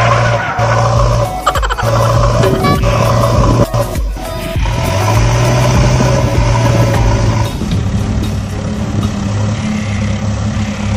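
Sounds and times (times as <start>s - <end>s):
truck engine droning: 0.0s - 10.9s.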